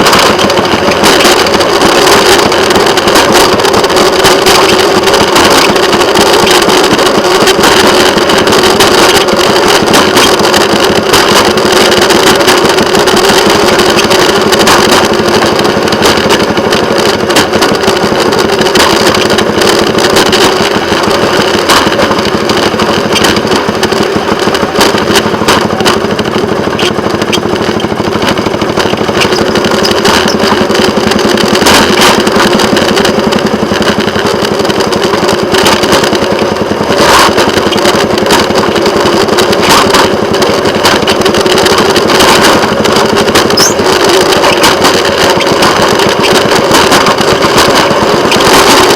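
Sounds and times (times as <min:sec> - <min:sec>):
small engine droning: 0:00.0 - 0:48.9
wheels clicking and rattling on track: 0:00.0 - 0:48.9.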